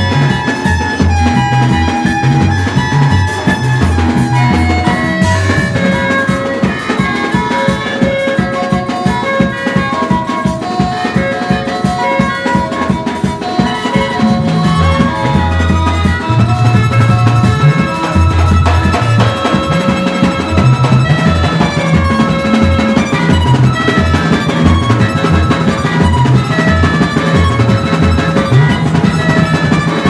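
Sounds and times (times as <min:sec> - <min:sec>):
music with drum beat and melody: 0:00.0 - 0:30.0.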